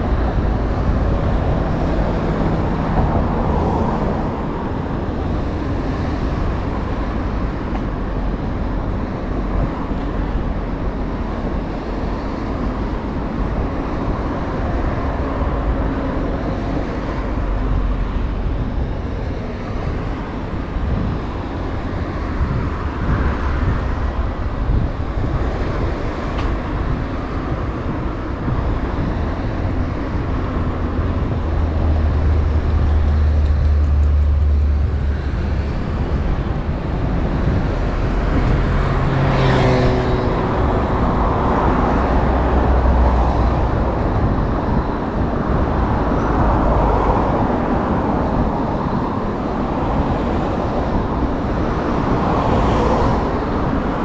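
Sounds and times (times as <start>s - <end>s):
cars passing: 0.0s - 54.0s
heavy vehicle deep rumble: 0.0s - 54.0s.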